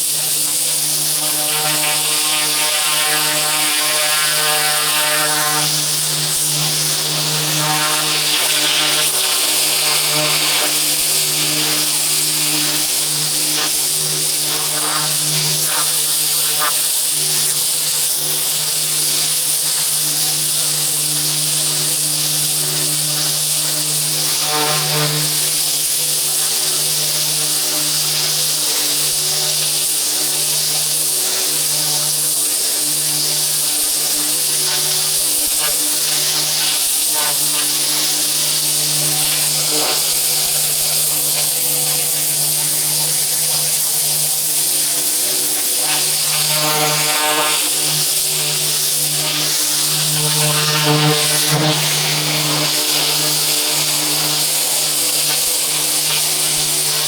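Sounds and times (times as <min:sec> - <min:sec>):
high-pressure water spray hissing: 0:00.0 - 0:57.0
pressure washer hum: 0:00.0 - 0:57.0.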